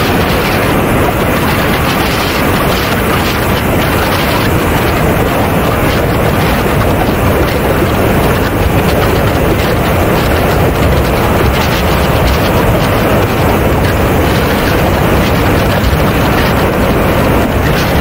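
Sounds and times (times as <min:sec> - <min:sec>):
air rushing over camera: 0:00.0 - 0:18.0
model jet engine noise: 0:00.0 - 0:18.0.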